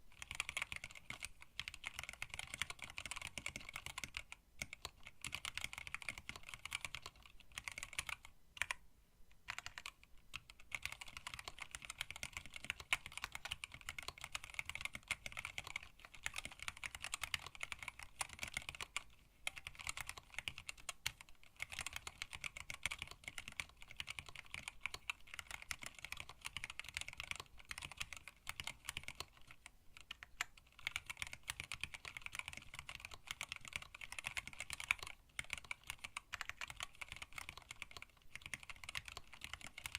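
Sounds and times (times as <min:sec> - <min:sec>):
mechanical keyboard typing: 0:00.1 - 0:08.8, 0:09.4 - 0:39.9.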